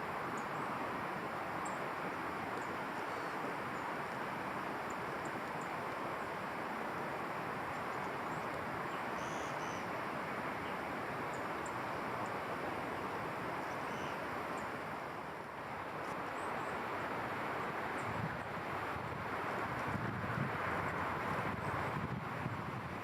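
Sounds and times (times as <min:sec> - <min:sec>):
rushing outdoor background noise: 0:00.0 - 0:23.0.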